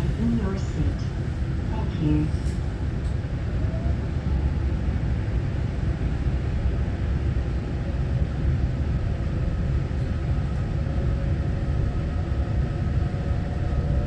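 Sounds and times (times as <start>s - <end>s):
train interior rumble and hum: 0.0s - 14.0s.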